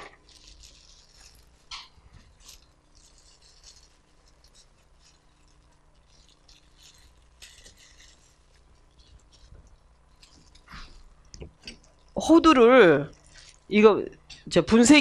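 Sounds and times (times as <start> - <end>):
plastic gloves crinkling: 0.0 - 15.0.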